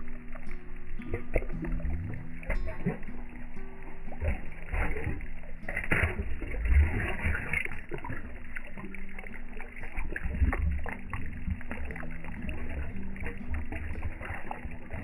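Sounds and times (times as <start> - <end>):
fish splashing and slurping: 0.0 - 15.0
low rumble on microphone: 0.0 - 15.0.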